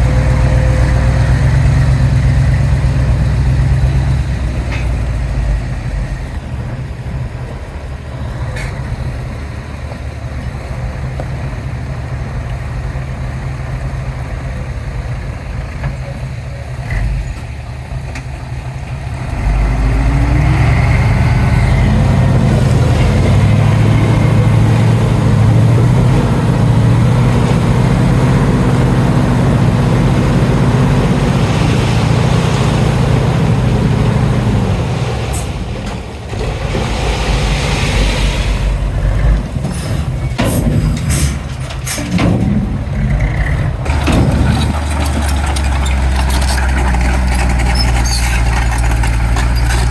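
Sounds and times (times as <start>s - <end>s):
diesel engine working under load: 0.0s - 49.9s.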